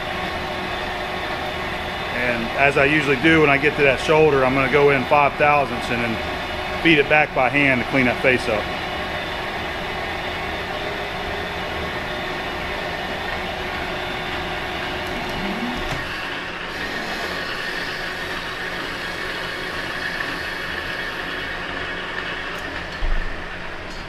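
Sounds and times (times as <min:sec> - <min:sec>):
metal lathe whirring: 0:00.0 - 0:24.0.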